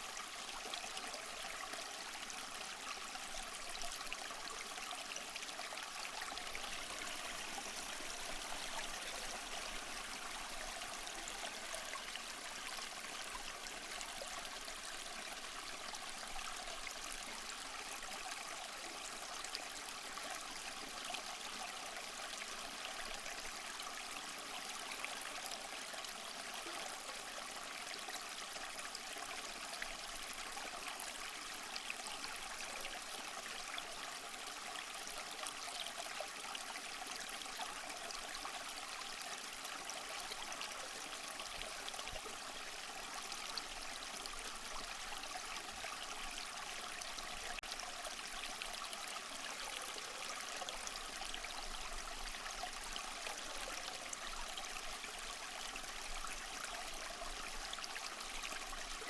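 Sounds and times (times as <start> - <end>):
small waterfall splashing over rocks: 0.0 - 59.0.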